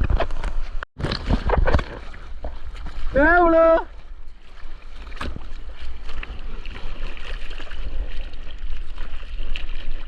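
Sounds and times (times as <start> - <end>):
sea water sloshing and splashing: 0.3 - 10.0.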